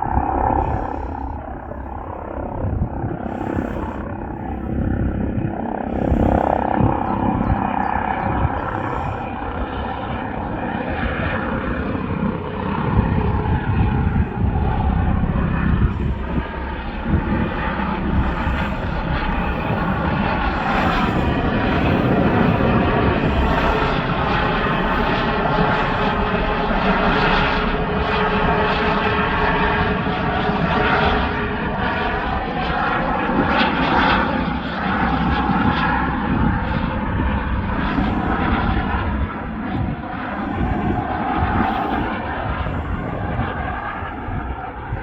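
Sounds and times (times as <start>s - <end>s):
helicopter turbine whine and rotors: 0.0s - 45.0s.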